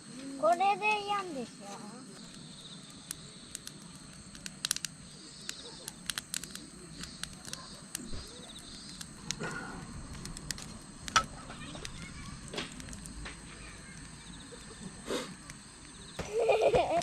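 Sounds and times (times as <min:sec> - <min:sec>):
campfire kindling crackling: 0:00.0 - 0:17.0
crickets chirping: 0:00.0 - 0:17.0.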